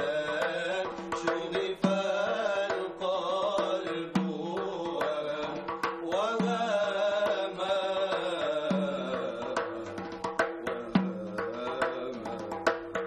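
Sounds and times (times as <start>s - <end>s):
men chanting devotional song: 0.0s - 13.0s.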